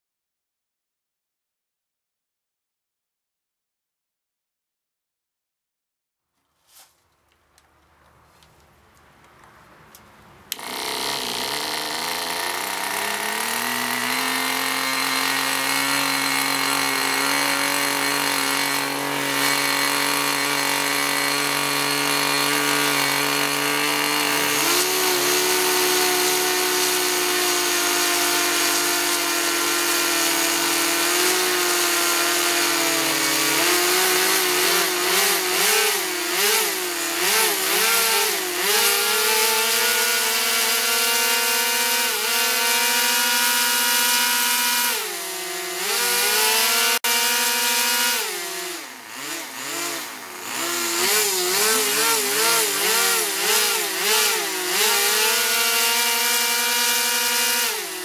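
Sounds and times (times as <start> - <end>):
model engines running: 10.5 - 58.0.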